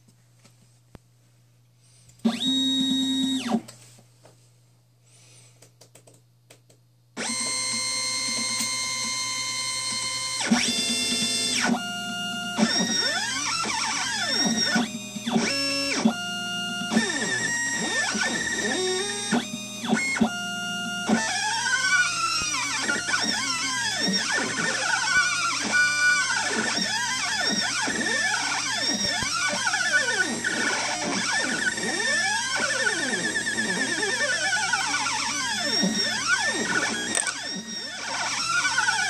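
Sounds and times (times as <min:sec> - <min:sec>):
stepper motors whining: 0:02.2 - 0:03.6, 0:07.2 - 0:39.0.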